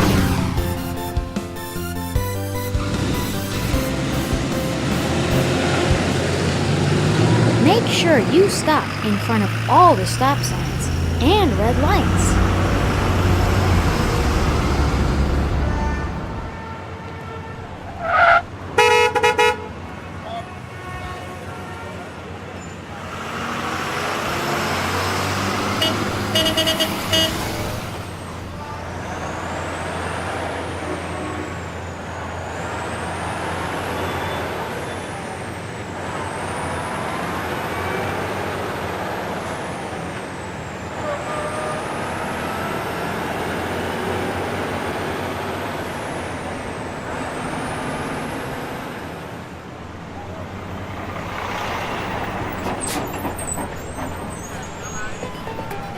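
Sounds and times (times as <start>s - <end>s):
garbage truck engine: 0.0s - 16.8s, 22.7s - 55.9s.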